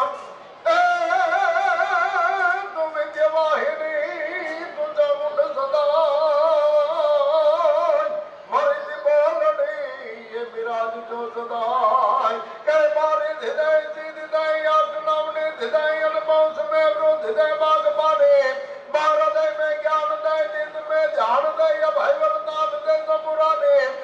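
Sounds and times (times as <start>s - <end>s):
man singing with vibrato: 0.0s - 24.0s.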